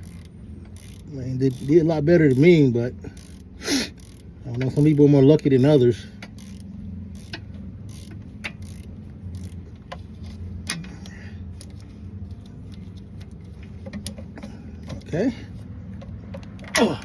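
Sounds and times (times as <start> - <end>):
low hum: 0.0 - 17.0
ratchet wrench clicking: 0.0 - 17.0.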